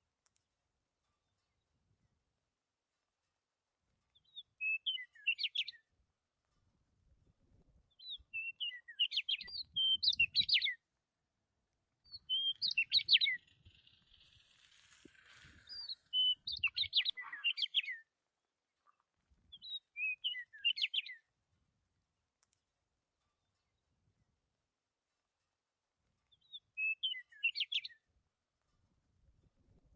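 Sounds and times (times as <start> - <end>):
songbird chirping: 0.0 - 6.8, 7.8 - 21.4, 22.1 - 29.0.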